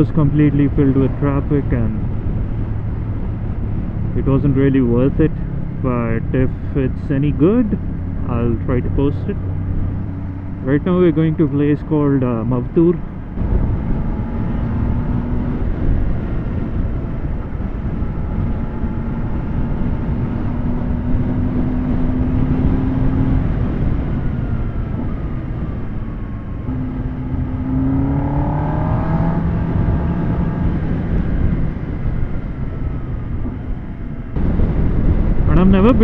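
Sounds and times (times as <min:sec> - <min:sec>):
motorcycle engine revving: 0:00.0 - 0:36.0
wind and road noise: 0:00.0 - 0:36.0.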